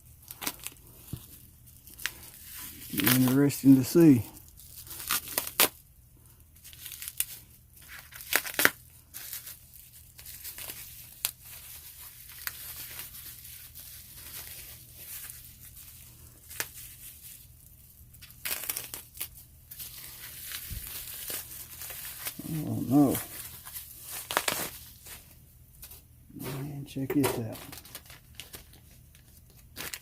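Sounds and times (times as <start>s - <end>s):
packing material rustling and crinkling: 0.0s - 30.0s.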